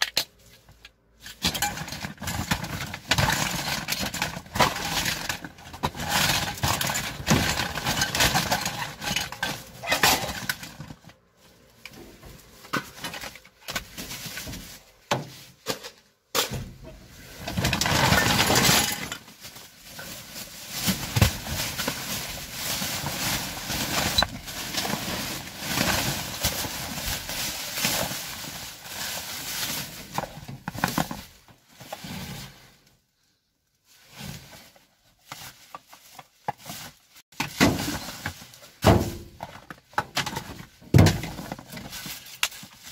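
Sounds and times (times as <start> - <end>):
plastic bags and paper rustling: 0.1 - 42.9.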